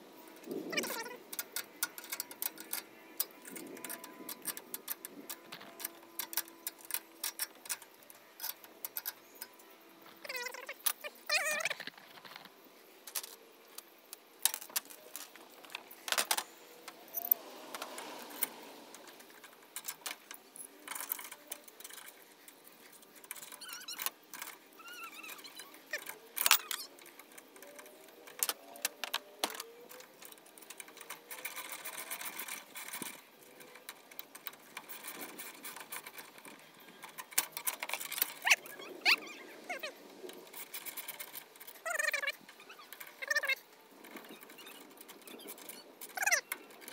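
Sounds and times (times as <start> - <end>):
wrenches and bolts clinking on steel: 0.1 - 46.9.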